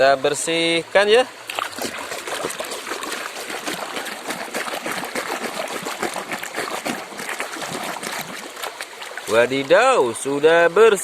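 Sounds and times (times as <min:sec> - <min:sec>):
water running and splashing: 0:01.4 - 0:11.0.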